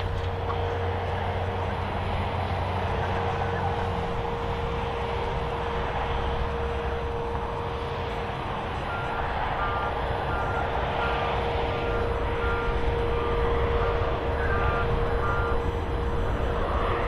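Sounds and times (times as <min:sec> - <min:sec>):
lorries driving past: 0:00.0 - 0:17.0
steady hum: 0:00.0 - 0:17.0.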